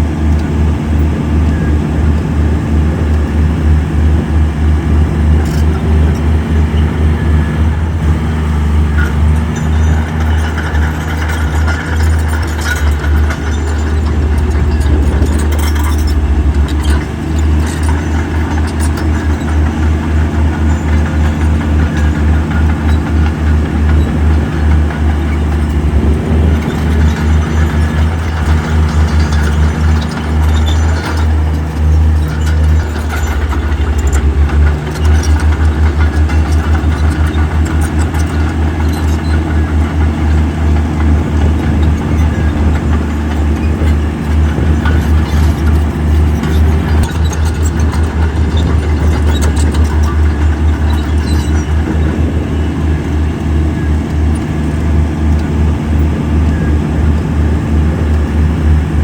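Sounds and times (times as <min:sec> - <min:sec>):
diesel engine running: 0:00.0 - 0:59.0
clicks and rattles: 0:05.2 - 0:07.4, 0:08.4 - 0:58.5.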